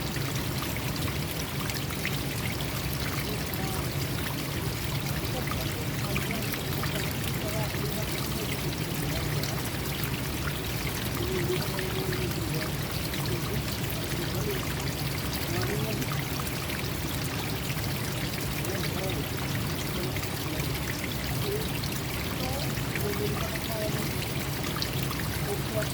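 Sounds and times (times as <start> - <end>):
stream gurgling over stones: 0.0 - 25.9.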